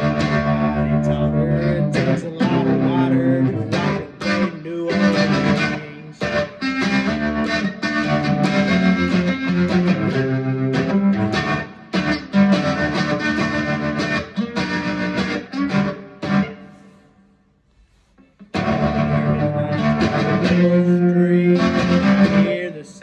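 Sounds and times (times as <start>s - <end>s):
guitar strumming chords: 0.0s - 17.3s, 18.2s - 23.0s.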